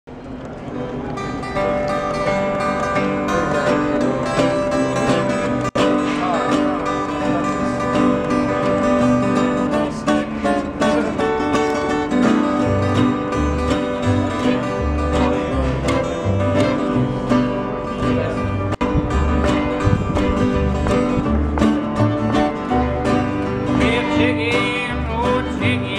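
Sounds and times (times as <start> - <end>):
acoustic guitars picking: 0.1 - 25.9
upright bass plucking: 1.1 - 25.9.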